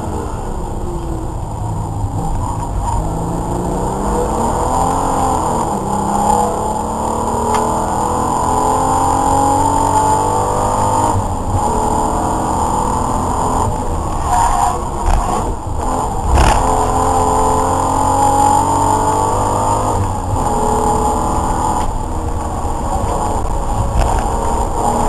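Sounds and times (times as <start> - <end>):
race car engine at full throttle: 0.0 - 25.0
road and wind noise: 0.0 - 25.0.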